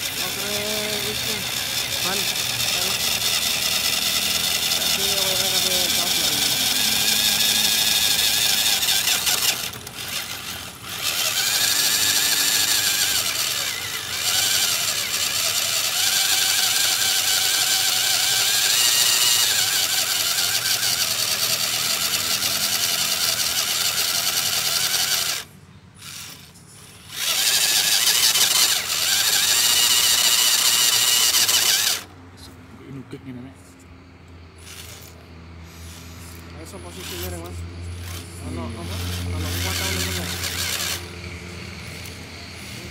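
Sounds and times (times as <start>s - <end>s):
electric motor and gears whining: 0.0s - 32.6s, 33.8s - 42.9s.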